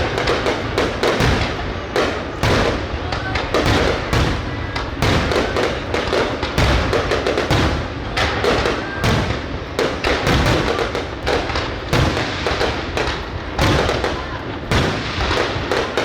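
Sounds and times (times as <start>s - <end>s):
fireworks bangs and thuds: 0.0s - 16.0s.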